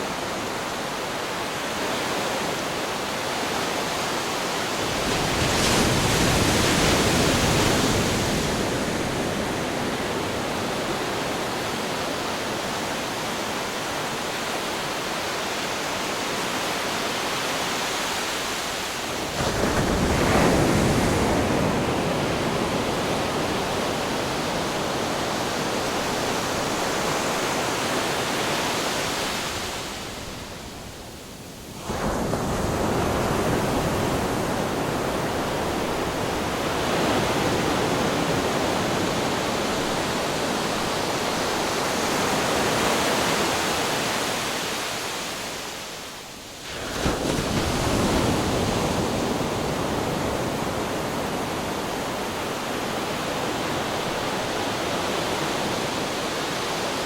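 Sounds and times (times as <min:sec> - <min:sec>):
ocean waves crashing on rocks: 0:00.0 - 0:30.7, 0:31.8 - 0:57.0.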